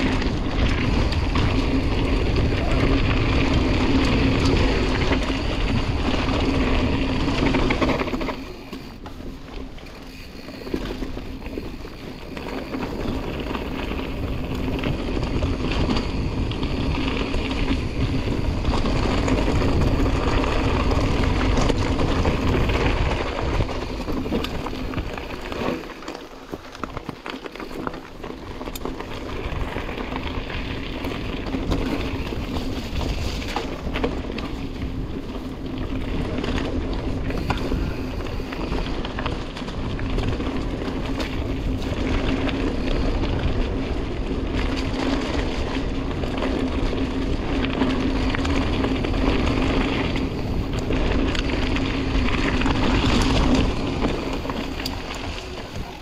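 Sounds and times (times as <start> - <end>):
tyres rolling over dirt: 0.0 - 56.0
wind buffeting microphone: 0.0 - 56.0.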